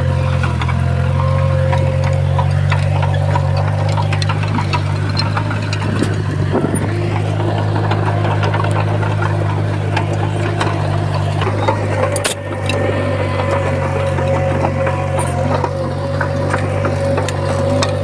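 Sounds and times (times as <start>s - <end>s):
bulldozer diesel engine running: 0.0s - 18.0s
metallic clanks from tracks: 0.0s - 18.0s.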